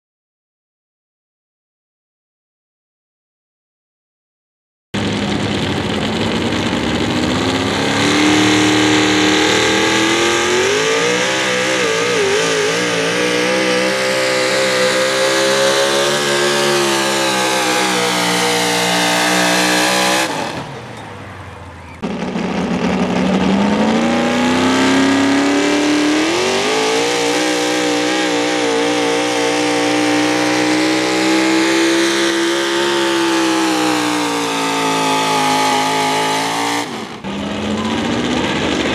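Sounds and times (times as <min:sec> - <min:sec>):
truck engines at high revs: 0:05.0 - 0:38.9.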